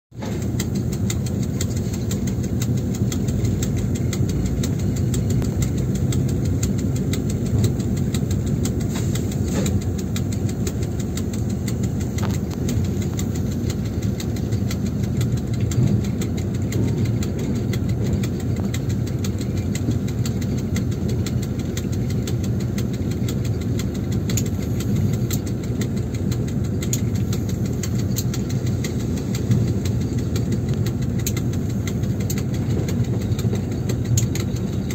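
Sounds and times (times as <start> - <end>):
diesel locomotive engine running: 0.1 - 34.9
light clicks and rattles: 0.2 - 34.9.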